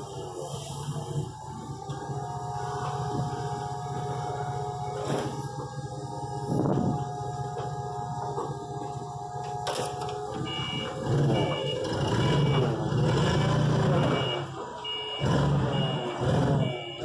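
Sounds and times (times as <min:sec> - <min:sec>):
forklift engine revving: 0:00.0 - 0:17.0
reversing alarm beeps: 0:00.0 - 0:17.0.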